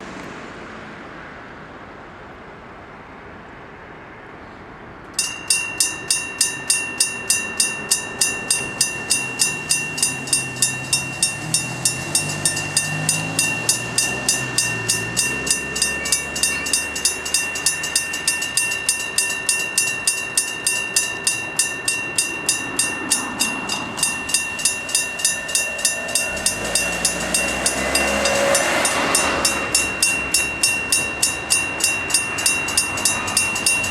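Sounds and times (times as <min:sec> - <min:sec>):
diesel railcar engine: 0:00.0 - 0:33.9
train rumble: 0:00.0 - 0:33.9
level crossing warning bell: 0:05.2 - 0:33.9.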